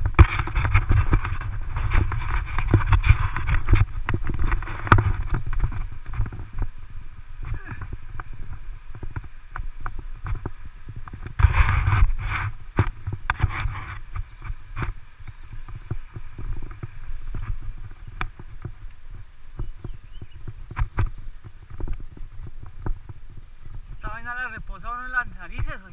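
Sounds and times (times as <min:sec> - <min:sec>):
bicycle rolling over gravel: 0:00.0 - 0:25.9
bike rattling: 0:00.0 - 0:25.9.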